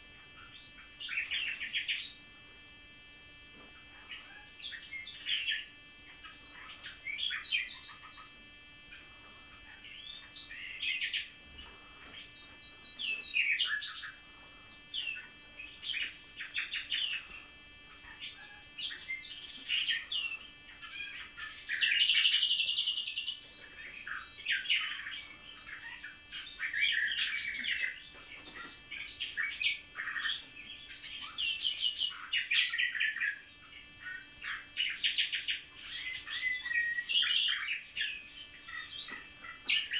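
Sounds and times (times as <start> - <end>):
songbirds singing: 0.0 - 2.3, 3.3 - 39.9.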